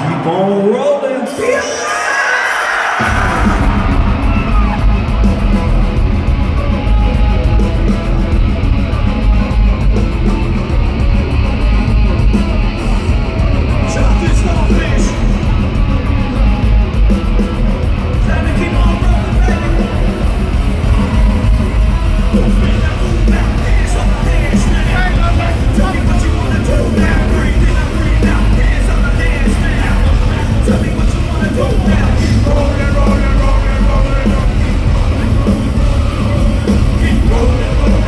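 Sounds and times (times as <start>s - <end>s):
distorted guitars: 0.0s - 38.0s
drums: 0.0s - 38.0s
yelled vocals: 0.0s - 38.0s
bass: 3.0s - 38.0s.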